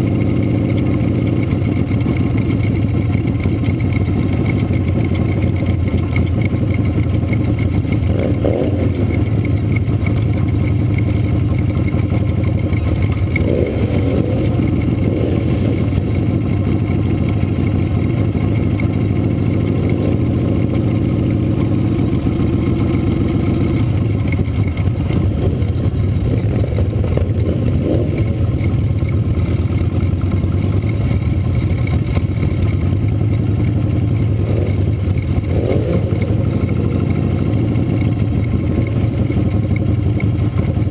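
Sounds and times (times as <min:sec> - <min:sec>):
motorcycle engine rumbling: 0:00.0 - 0:40.9.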